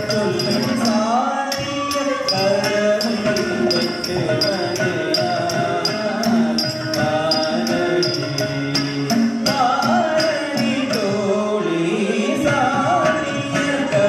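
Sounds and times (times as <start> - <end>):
accompanying instruments: 0.0 - 14.0.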